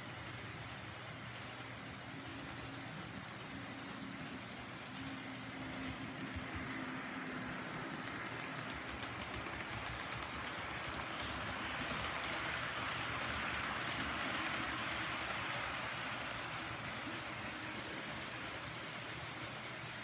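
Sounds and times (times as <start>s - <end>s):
model train wheels clattering: 0.1s - 20.0s.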